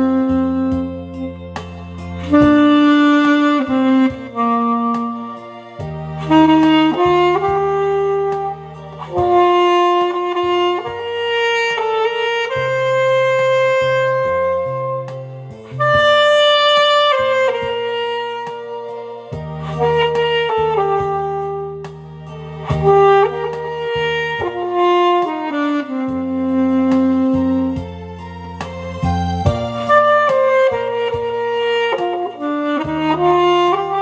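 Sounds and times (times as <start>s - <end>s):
alto saxophone melody: 0.0s - 34.0s.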